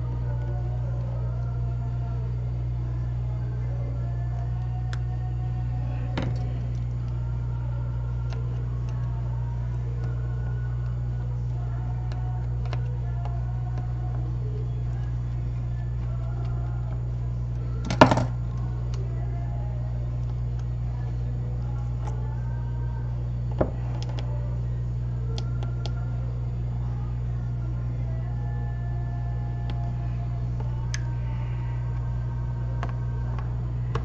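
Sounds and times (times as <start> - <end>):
low equipment hum: 0.0 - 34.0.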